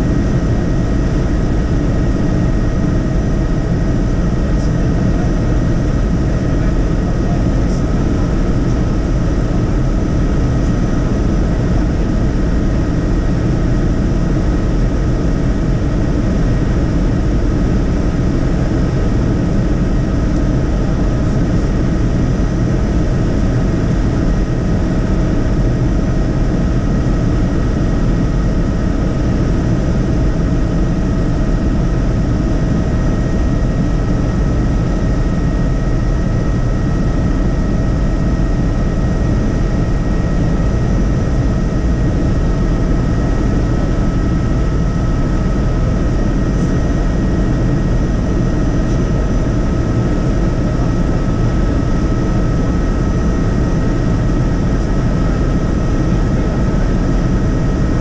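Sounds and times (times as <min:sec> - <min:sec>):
helicopter rotor and engine drone: 0:00.0 - 0:58.0
steady whine: 0:00.0 - 0:58.0.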